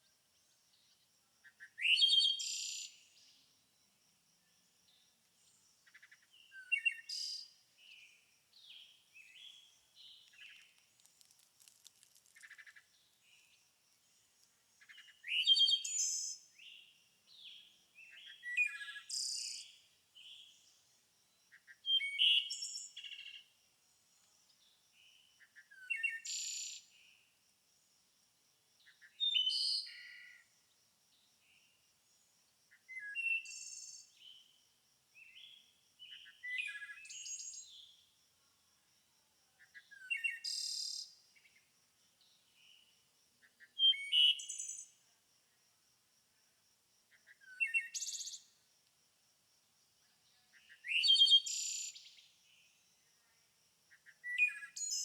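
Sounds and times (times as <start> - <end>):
songbird singing: 0.0 - 27.3, 28.8 - 30.5, 31.1 - 34.6, 35.2 - 38.2, 39.5 - 45.0, 47.1 - 48.6, 50.0 - 52.9, 53.9 - 55.0.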